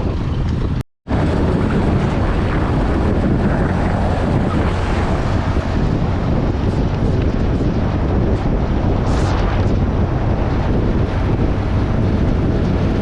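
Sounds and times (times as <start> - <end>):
motorcycle road noise: 0.0 - 13.0
wind buffeting microphone: 0.0 - 13.0.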